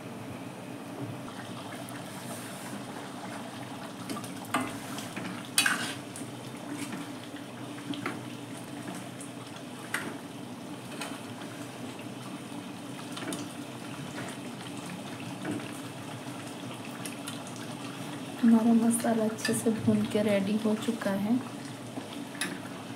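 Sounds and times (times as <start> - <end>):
gravy bubbling: 1.2 - 22.9.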